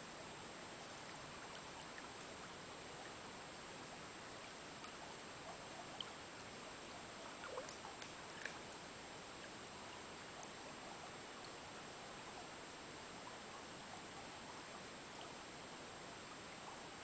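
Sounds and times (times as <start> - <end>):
faint ticks and plips: 0.0 - 17.0
stream running over stones: 0.1 - 17.0.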